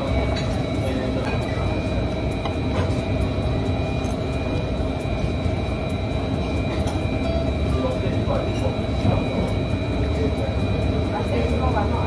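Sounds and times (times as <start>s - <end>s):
constant hum tones: 0.0s - 12.0s
indoor background rumble: 0.0s - 12.0s.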